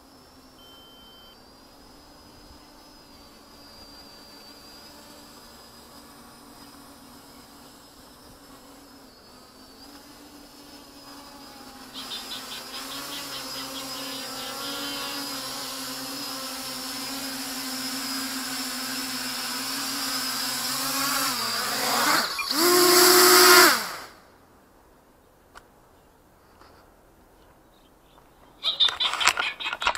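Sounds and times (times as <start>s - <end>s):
quadcopter motors buzzing: 0.0s - 24.3s.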